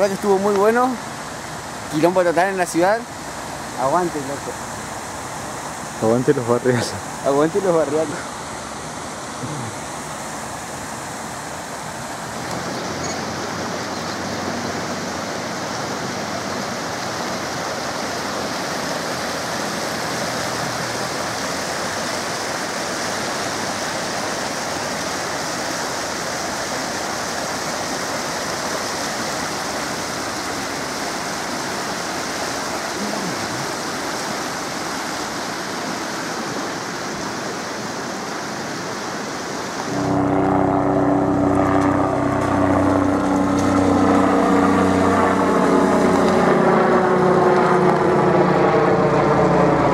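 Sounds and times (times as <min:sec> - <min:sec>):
floodwater rushing in a ditch: 0:00.0 - 0:49.9.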